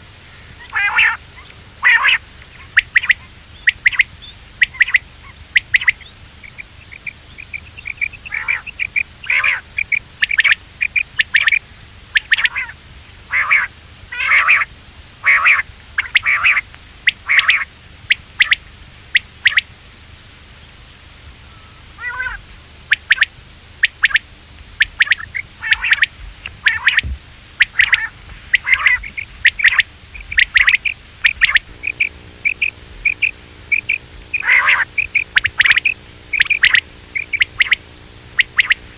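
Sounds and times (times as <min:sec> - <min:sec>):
quail calling: 0:00.0 - 0:19.7, 0:21.4 - 0:38.9.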